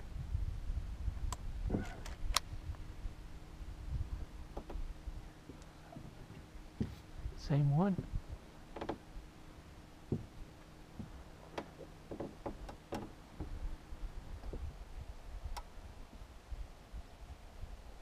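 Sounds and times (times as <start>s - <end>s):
faint steady hum: 0.0s - 18.0s
low rumble: 0.0s - 18.0s.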